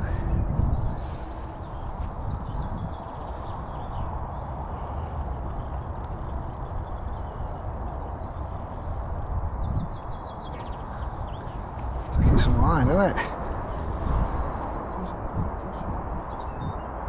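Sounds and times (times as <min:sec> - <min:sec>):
steady low rumble: 0:00.0 - 0:16.9
wind buffeting microphone: 0:00.0 - 0:17.0.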